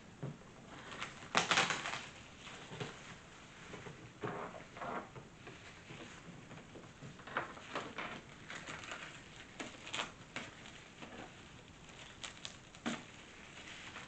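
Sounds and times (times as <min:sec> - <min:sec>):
plastic wrapping crinkling: 0:00.6 - 0:14.0.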